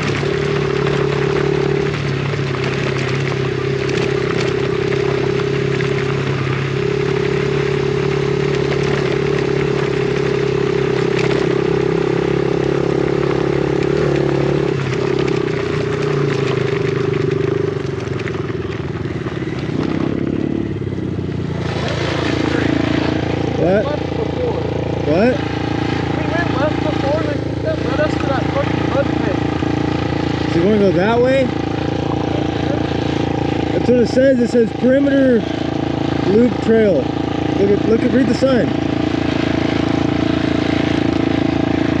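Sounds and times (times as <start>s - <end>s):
small motorcycle engine running: 0.0s - 42.0s.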